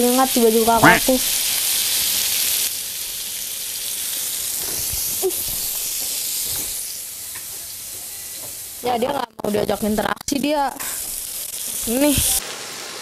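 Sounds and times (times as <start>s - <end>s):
meat sizzling on a grill plate: 0.0s - 13.0s.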